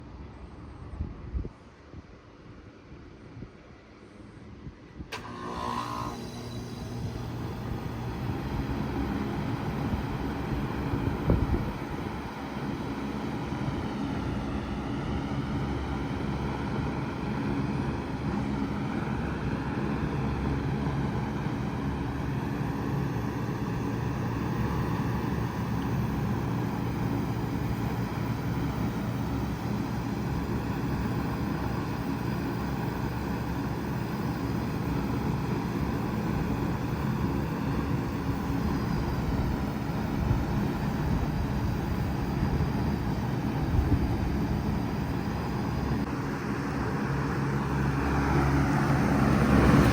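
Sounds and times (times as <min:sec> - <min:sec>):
fan noise: 0:00.0 - 0:49.9
compressor hum: 0:05.1 - 0:49.9.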